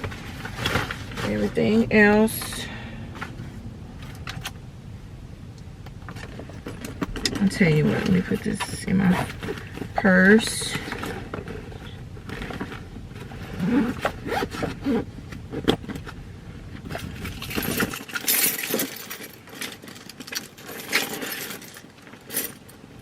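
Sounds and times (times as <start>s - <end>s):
rummaging in a purse: 0.0s - 4.6s, 5.9s - 23.0s
low background rumble: 0.0s - 23.0s.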